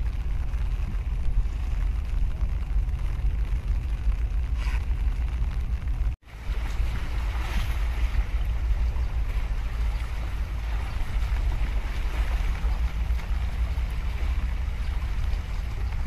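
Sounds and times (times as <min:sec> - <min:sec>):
choppy water washing against breakwater: 0:00.0 - 0:16.0
wind buffeting microphone: 0:00.0 - 0:16.0.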